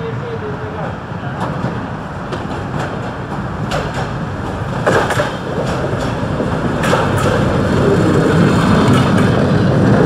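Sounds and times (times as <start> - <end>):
train rumbling past: 0.0 - 10.0
wheels clicking over rail joints: 1.4 - 10.0.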